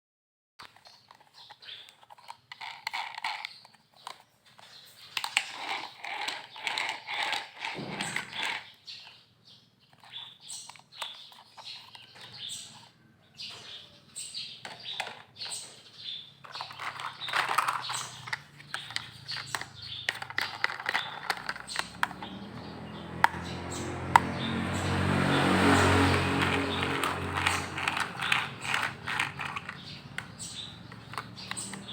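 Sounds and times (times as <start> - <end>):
plastic toys clicking and rattling: 0.6 - 9.2, 9.9 - 12.9, 14.6 - 22.6, 25.6 - 31.9.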